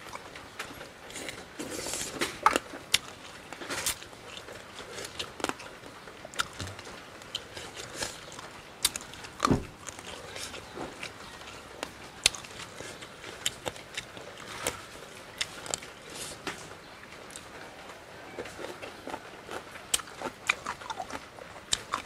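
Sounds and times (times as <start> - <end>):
person chewing food: 0.0 - 22.0
small crunches and clicks: 0.0 - 22.0.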